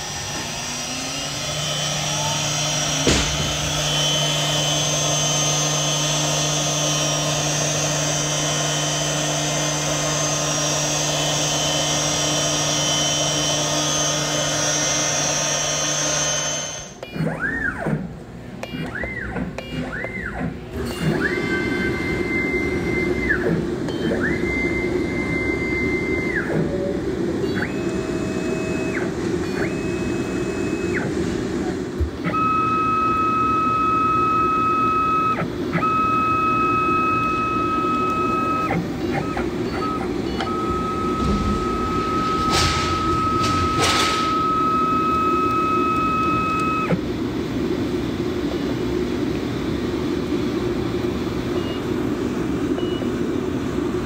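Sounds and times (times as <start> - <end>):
motors whining: 0.0 - 47.0
industrial machine humming: 0.0 - 54.0.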